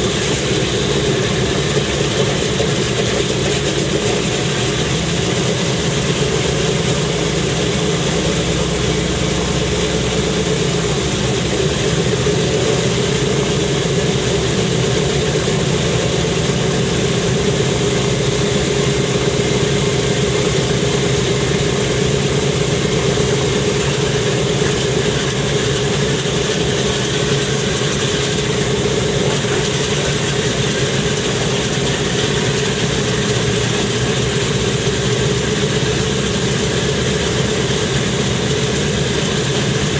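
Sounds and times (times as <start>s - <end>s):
aircraft engine idling: 0.0s - 39.9s.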